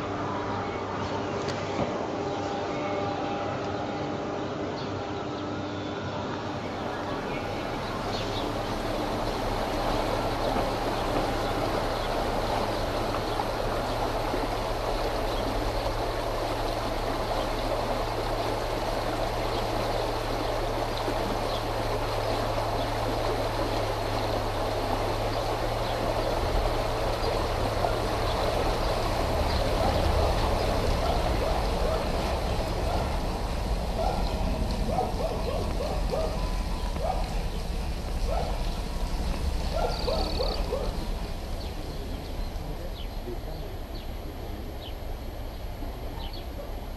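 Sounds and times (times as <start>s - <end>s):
low hum and rumble: 3.6s - 46.9s
stream rushing over stones: 7.2s - 46.9s.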